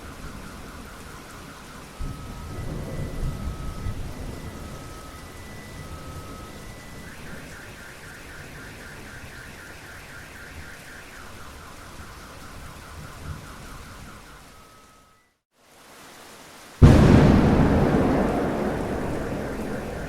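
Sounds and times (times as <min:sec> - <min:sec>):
steady rain: 0:00.0 - 0:20.0
car alarm pulsing chirp: 0:00.3 - 0:15.3, 0:16.8 - 0:20.0.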